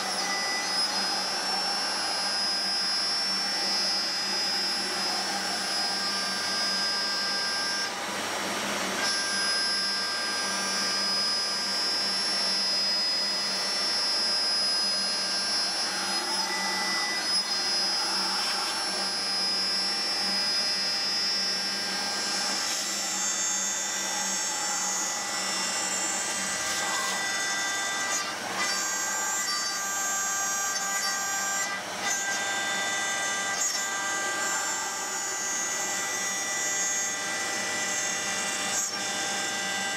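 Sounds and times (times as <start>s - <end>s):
end mill cutting metal: 0.0s - 39.9s
milling spindle whine: 0.0s - 39.9s.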